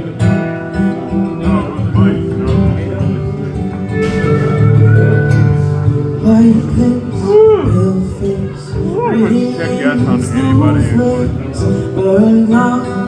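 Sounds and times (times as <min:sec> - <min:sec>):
guitar music: 0:00.0 - 0:13.0.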